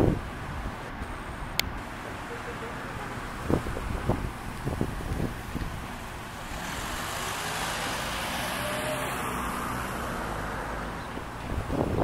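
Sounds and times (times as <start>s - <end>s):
car passing: 1.9s - 12.0s.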